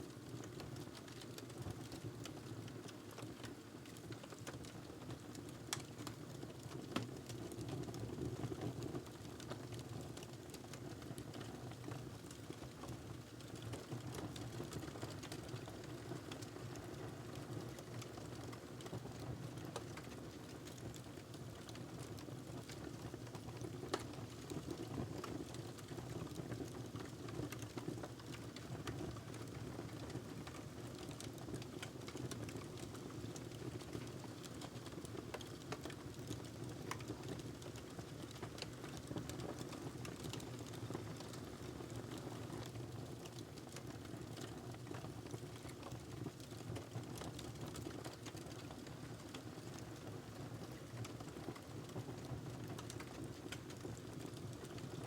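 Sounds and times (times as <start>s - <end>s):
wood fire crackling: 0.2s - 55.0s.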